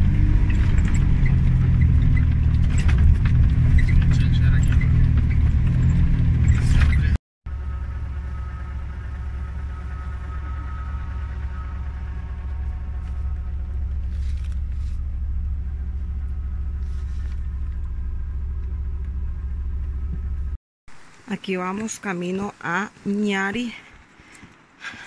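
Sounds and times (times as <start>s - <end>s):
car engine and road rumble: 0.0s - 21.2s.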